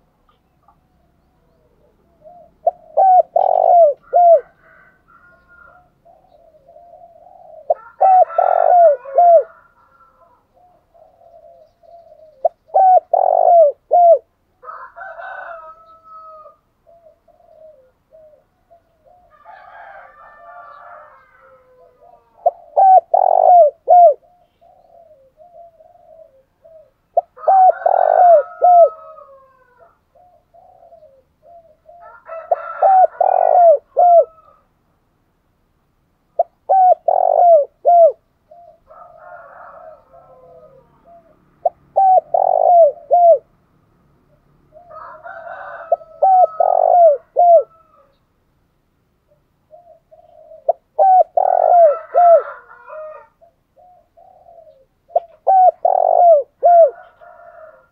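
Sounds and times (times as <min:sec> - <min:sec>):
doves cooing: 0:00.0 - 0:34.7, 0:36.4 - 0:43.6, 0:44.3 - 0:48.2, 0:49.3 - 0:57.9.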